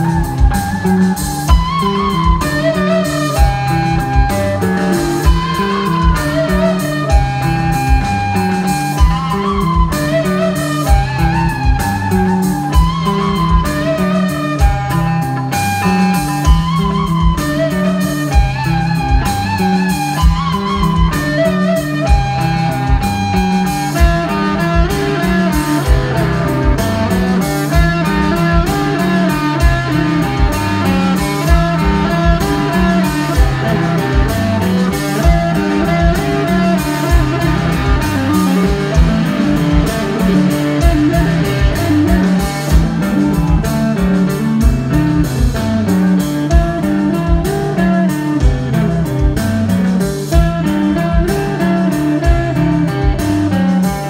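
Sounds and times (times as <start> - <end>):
bass line: 0.0 - 54.0
electric guitar: 0.0 - 54.0
steady drum beat: 0.0 - 54.0.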